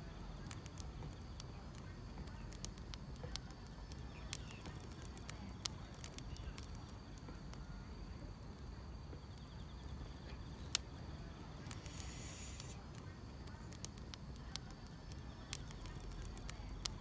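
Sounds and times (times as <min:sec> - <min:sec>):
insects chirping: 0:00.0 - 0:17.0
low steady rumble: 0:00.0 - 0:17.0
sharp pops of fire: 0:00.0 - 0:17.0
wood fire crackling: 0:00.0 - 0:17.0.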